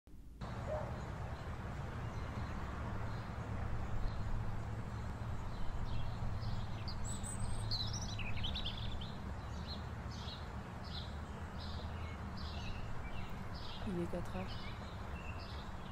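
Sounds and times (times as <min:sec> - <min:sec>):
small birds chirping: 0:00.4 - 0:15.9.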